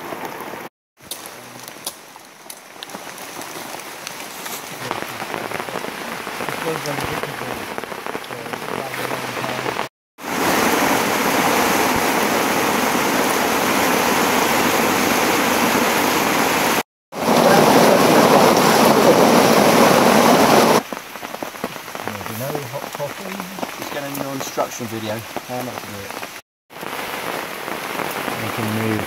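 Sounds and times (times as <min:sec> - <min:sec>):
rain falling on foliage: 0:00.0 - 0:29.0.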